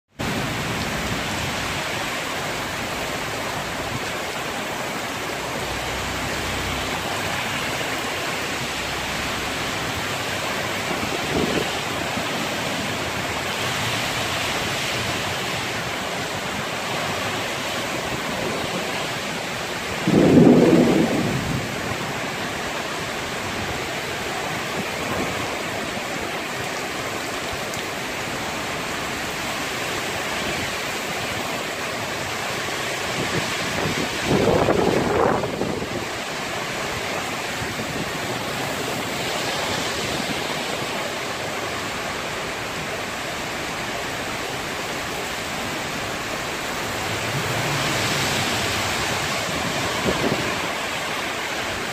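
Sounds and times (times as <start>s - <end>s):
gusting wind in trees: 0.1s - 51.9s
heavy rain: 0.1s - 51.9s.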